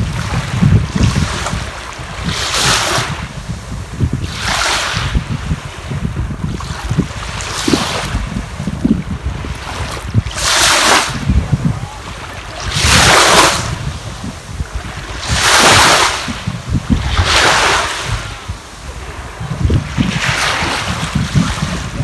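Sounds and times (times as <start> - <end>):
sea waves washing onto shore: 0.0 - 22.0
wind buffeting microphone: 0.0 - 22.0.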